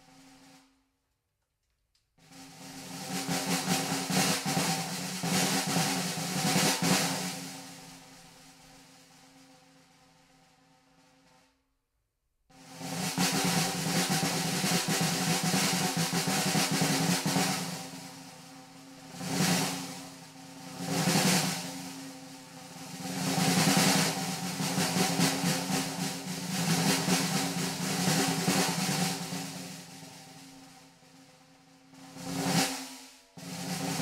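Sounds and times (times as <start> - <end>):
drum kit rolls with sticks: 2.2 - 10.1, 12.5 - 34.0.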